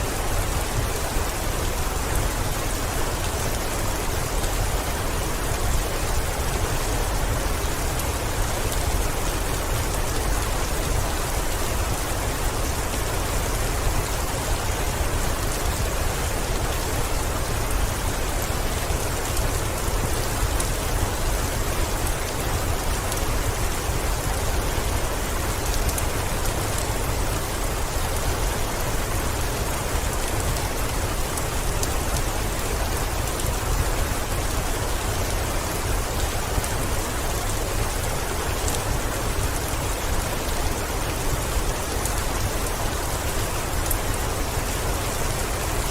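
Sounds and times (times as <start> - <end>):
heavy rain on window: 0.0 - 45.9.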